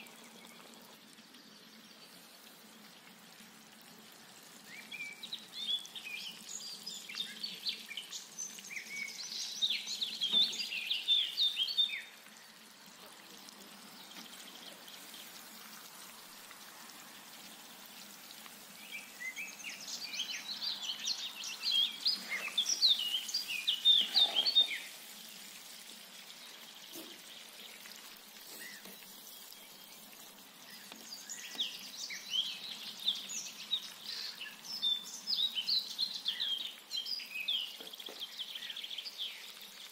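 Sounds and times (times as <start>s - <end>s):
hot oil sizzling and crackling: 0.0s - 39.9s.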